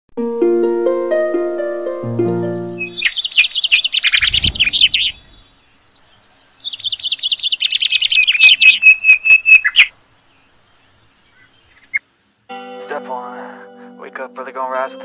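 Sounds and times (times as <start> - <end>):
songbird chirping: 2.1 - 15.0.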